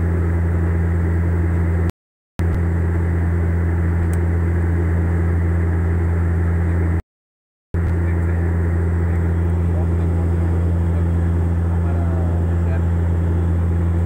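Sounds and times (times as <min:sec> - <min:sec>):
turboprop cabin propeller hum: 0:00.0 - 0:07.0, 0:07.8 - 0:14.0.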